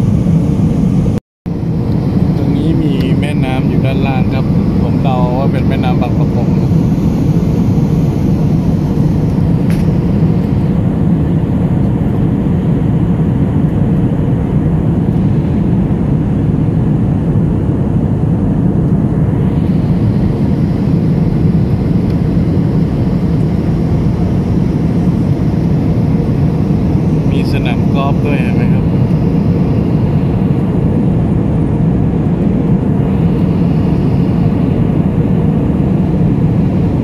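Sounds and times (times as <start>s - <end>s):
jet airliner cabin drone: 0.0s - 37.0s.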